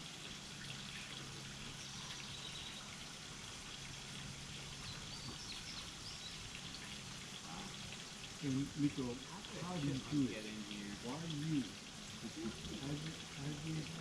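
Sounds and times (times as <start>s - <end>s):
background hiss: 0.0s - 14.0s
songbirds chirping: 0.3s - 14.0s
low hum: 0.6s - 14.0s.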